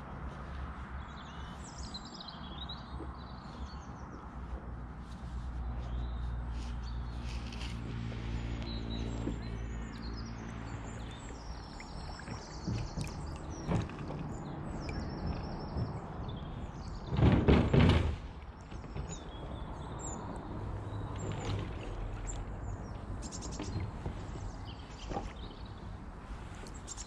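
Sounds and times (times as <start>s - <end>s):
small birds chirping: 0.4s - 17.2s, 22.2s - 27.0s.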